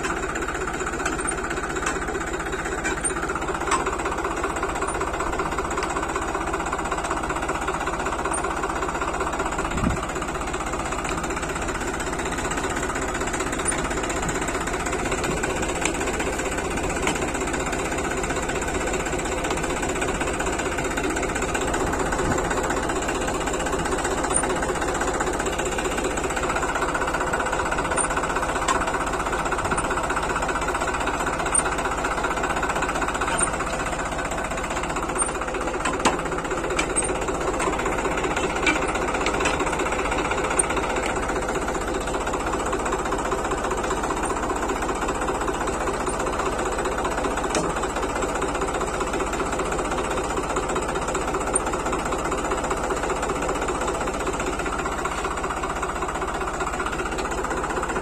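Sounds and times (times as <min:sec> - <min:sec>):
tractor diesel engine knocking: 0:00.0 - 0:58.0.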